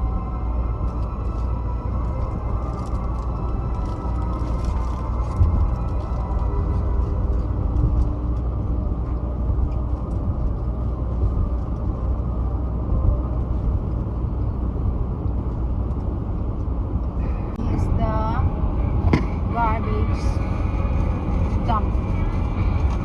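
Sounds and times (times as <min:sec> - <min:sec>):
car cabin road rumble: 0:00.0 - 0:23.0.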